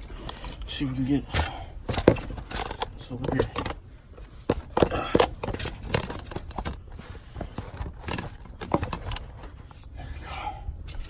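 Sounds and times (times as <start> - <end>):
rummaging knocks and rustles: 0.0 - 10.2.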